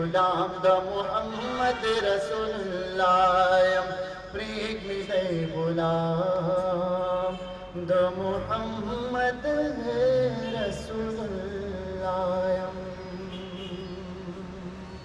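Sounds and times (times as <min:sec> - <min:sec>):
man chanting melismatically: 0:00.0 - 0:15.0.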